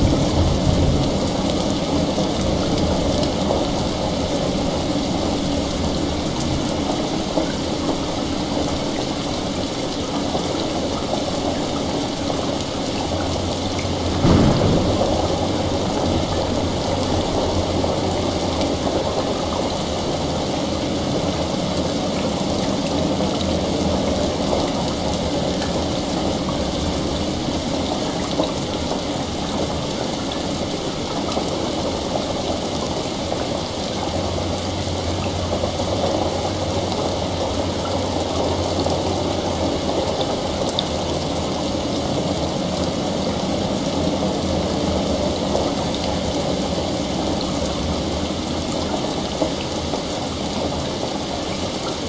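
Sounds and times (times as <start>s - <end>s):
heavy rain: 0.0s - 52.0s
running water: 0.0s - 52.0s.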